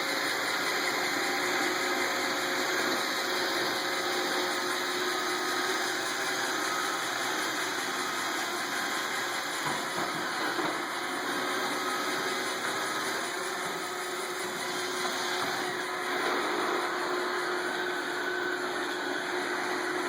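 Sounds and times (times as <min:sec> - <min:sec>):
robot vacuum motor whirring: 0:00.0 - 0:20.0.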